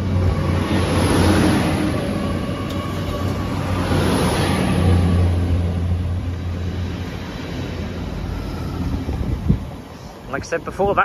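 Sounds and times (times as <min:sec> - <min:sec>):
diesel train engine drone: 0:00.0 - 0:11.0
train running noise: 0:00.0 - 0:11.0.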